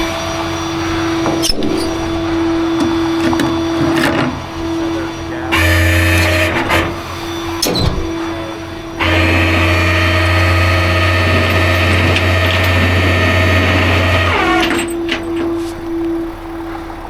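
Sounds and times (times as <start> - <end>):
tow truck hydraulics humming: 0.0 - 17.0.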